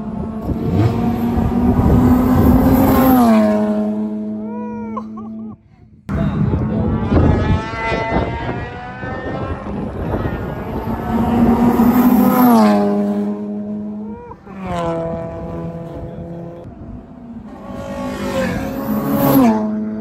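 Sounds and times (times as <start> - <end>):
car engine passing at full throttle: 0.0 - 4.5, 6.2 - 20.0.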